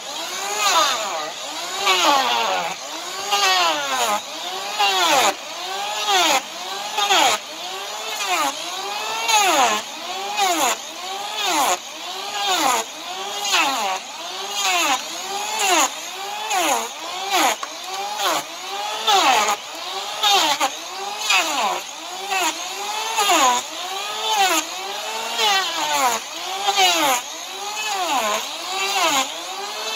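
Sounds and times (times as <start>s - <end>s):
electric planer motor whine: 0.0s - 29.9s.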